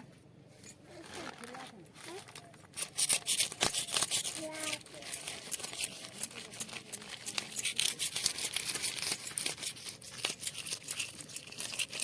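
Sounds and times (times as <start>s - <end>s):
dry scraping in food preparation: 0.0s - 12.0s.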